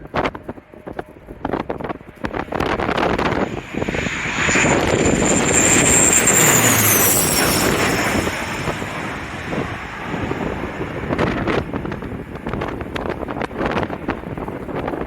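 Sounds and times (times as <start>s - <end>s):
airliner engine noise passing overhead: 0.0s - 15.0s
wind buffeting microphone: 0.0s - 15.0s
high jet whine dropping in pitch: 1.2s - 13.9s.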